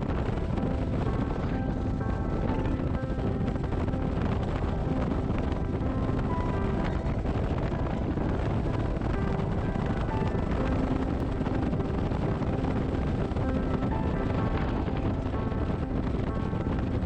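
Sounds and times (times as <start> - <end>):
background music: 0.0 - 17.0
wind rush: 0.0 - 17.0.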